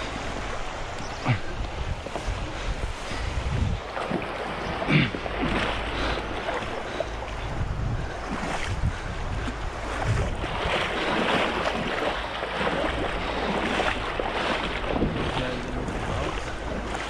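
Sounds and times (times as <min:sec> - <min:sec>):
river water rushing and splashing: 0:00.0 - 0:17.0
wind on microphone: 0:00.0 - 0:17.0.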